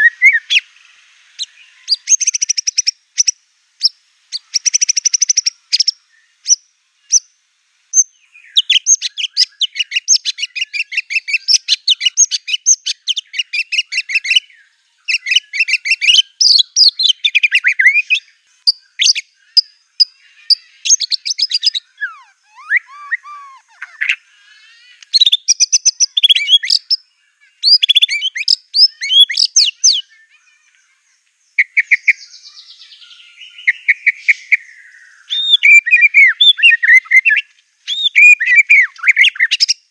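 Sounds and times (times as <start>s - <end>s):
songbird singing chattering trills: 0.0s - 39.9s.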